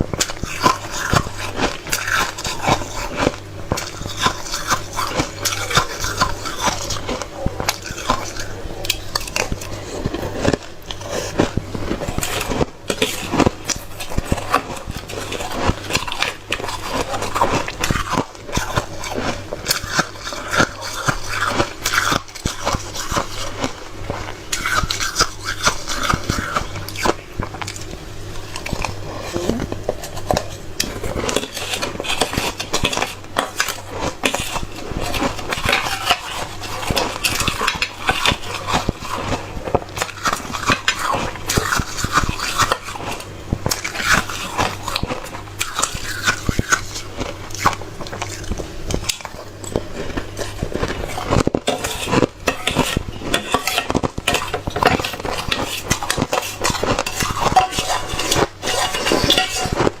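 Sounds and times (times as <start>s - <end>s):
ice being chewed: 0.0s - 60.0s
spoon scraping ice in a bowl: 0.2s - 27.9s, 28.5s - 60.0s.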